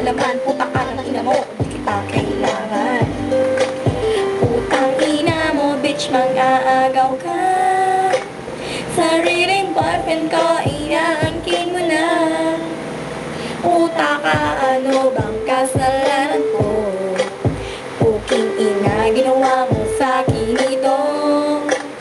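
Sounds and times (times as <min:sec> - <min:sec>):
woman singing: 0:00.0 - 0:12.9, 0:13.6 - 0:22.0
backing music with steady beat: 0:00.0 - 0:22.0.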